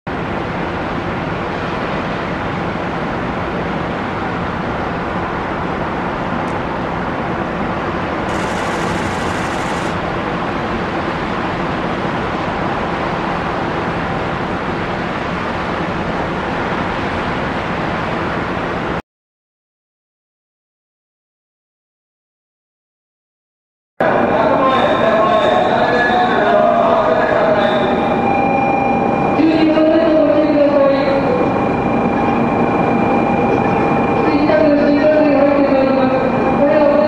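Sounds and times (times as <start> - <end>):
distant city traffic hum: 0.1 - 19.0, 24.0 - 37.0.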